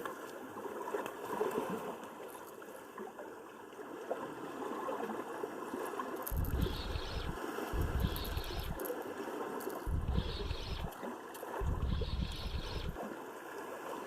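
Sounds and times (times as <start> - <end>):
seawater washing at shoreline: 0.0 - 14.0.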